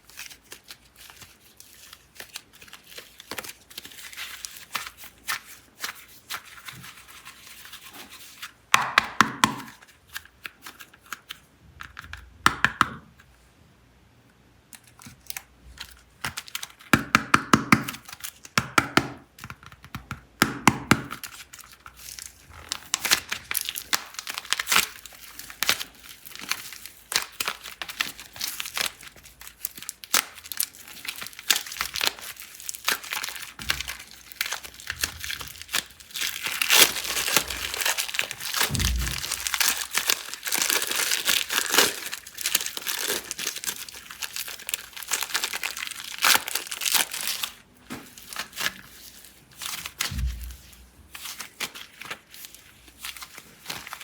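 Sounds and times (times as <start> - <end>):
plastic packaging crinkling and tearing: 0.0 - 8.6, 14.7 - 16.9, 17.8 - 18.6, 21.1 - 54.0.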